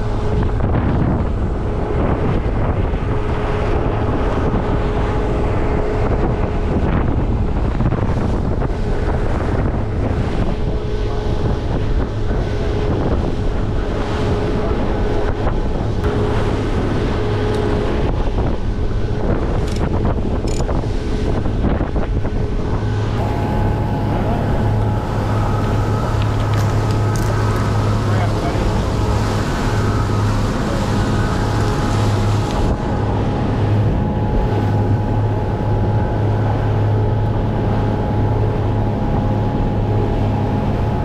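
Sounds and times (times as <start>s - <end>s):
boat engine drone: 0.0s - 41.0s
rushing water: 0.0s - 41.0s
wind buffeting microphone: 0.0s - 41.0s.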